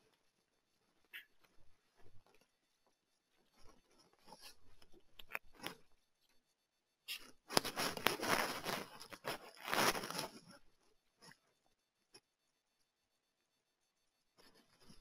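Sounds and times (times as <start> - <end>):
rustling and scraping: 0.0 - 12.4, 14.3 - 15.0.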